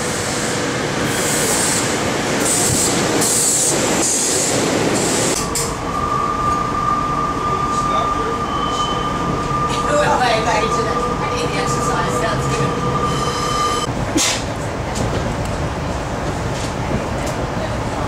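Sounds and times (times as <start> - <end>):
electric train rumbling: 0.0 - 18.0
train car interior whine: 0.0 - 18.0.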